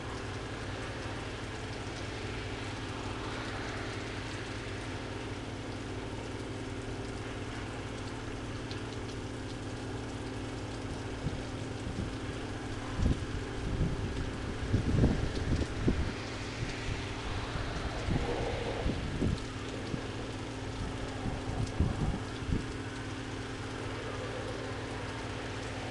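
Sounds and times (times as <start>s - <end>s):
pressure washer running: 0.0s - 25.9s.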